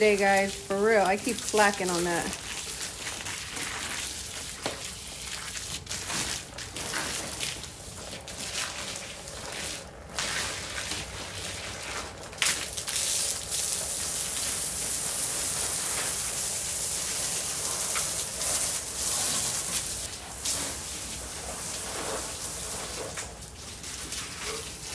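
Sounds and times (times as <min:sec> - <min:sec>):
garden hose spraying water: 0:00.0 - 0:24.9.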